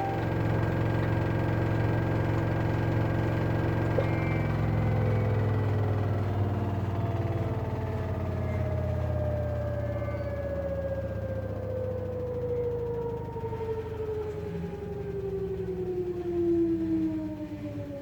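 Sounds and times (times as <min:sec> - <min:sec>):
washing machine spinning hum: 0:00.0 - 0:18.0.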